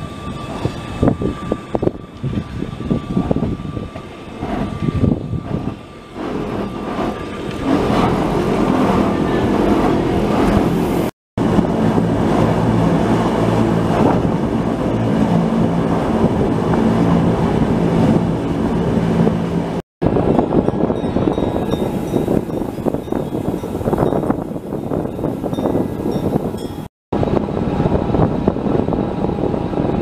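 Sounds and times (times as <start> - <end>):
gusty noise: 0.0 - 30.0
train rumble and motor hum: 0.0 - 30.0.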